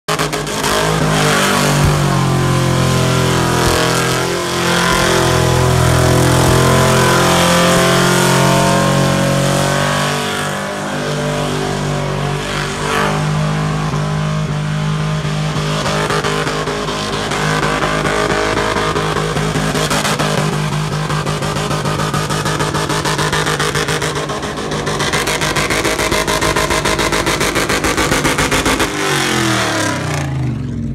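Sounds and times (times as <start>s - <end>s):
engine droning at high revs: 0.0s - 30.9s
spinning tyres hissing: 0.1s - 30.2s.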